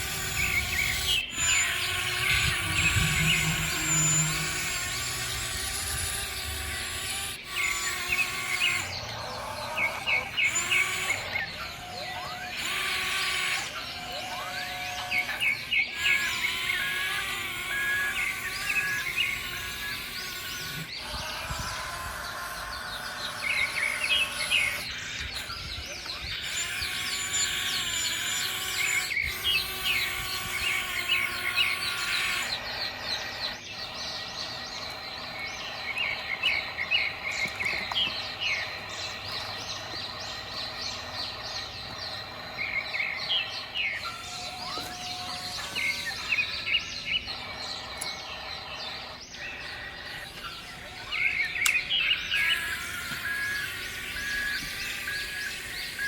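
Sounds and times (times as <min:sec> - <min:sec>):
birds chirping in quick trills: 0:00.0 - 0:56.0
steady tones: 0:00.0 - 0:56.0.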